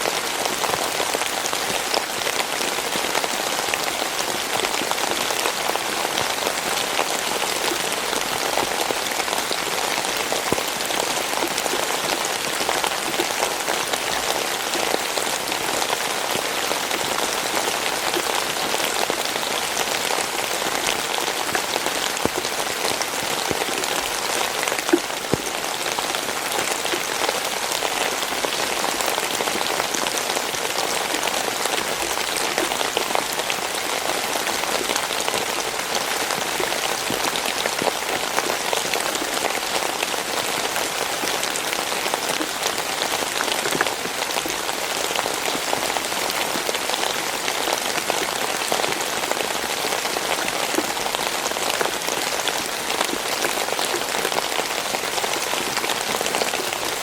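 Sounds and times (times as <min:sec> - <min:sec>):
raindrops pattering on a surface: 0:00.0 - 0:57.0.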